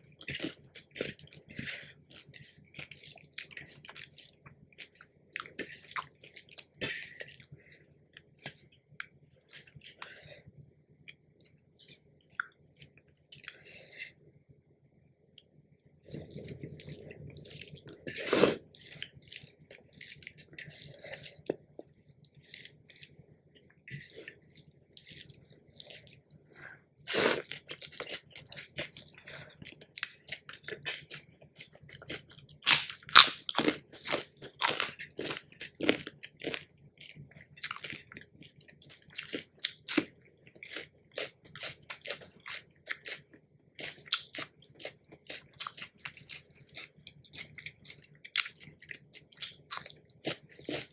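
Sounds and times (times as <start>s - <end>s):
person chewing crisp food: 0.2s - 10.2s, 16.1s - 26.4s, 27.1s - 50.9s.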